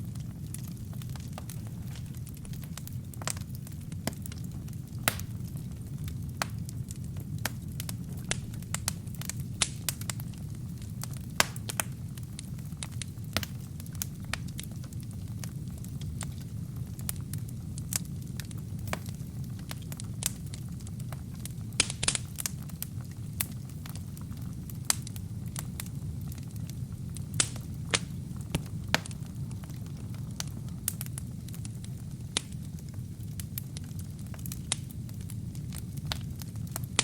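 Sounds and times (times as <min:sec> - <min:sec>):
fire crackling and popping: 0:00.0 - 0:37.0
low rumble of flame: 0:00.0 - 0:37.0.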